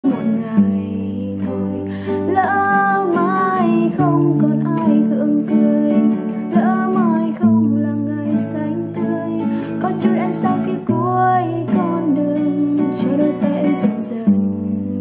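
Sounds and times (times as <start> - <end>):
nylon-string guitar fingerpicked: 0.0 - 15.0.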